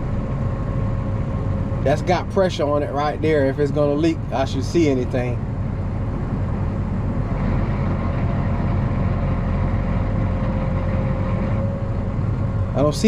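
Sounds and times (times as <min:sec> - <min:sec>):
faint steady hydraulic whine: 0:00.0 - 0:13.0
tractor engine rumbling: 0:00.0 - 0:13.0.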